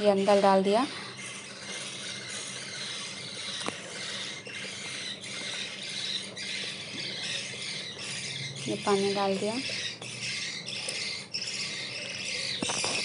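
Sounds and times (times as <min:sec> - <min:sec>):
budgerigars chattering and warbling: 0:00.0 - 0:13.0.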